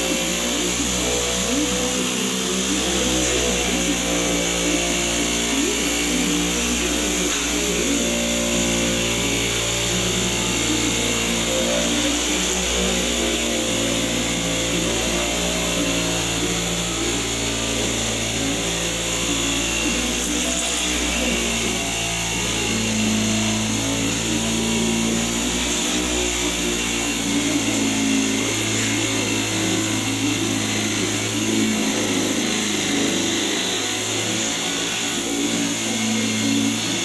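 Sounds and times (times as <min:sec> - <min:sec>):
angle grinder cutting sheet metal: 0:00.0 - 0:37.0.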